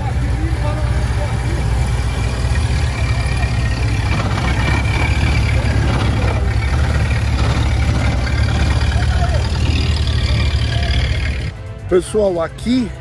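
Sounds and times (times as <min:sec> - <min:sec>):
pickup engine rumbling: 0:00.0 - 0:13.0.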